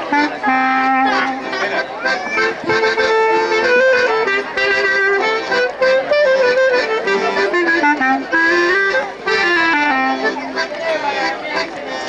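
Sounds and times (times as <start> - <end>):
accordion folk melody: 0.0 - 12.0.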